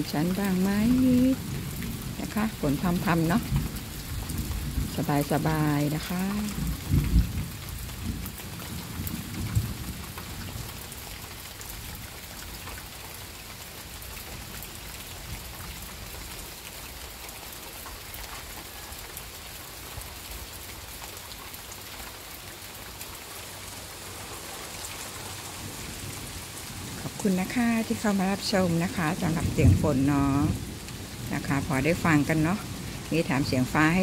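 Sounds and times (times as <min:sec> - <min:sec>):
light rain on trees: 0:00.0 - 0:34.0.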